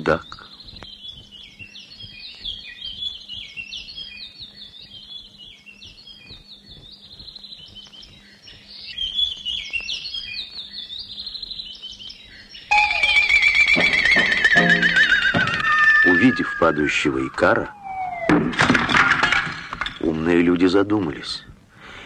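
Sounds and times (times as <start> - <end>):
small birds chirping and twittering: 0.0 - 18.6.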